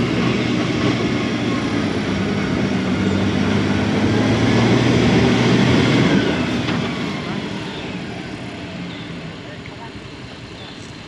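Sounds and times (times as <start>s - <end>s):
diesel truck engine labouring: 0.0s - 11.0s.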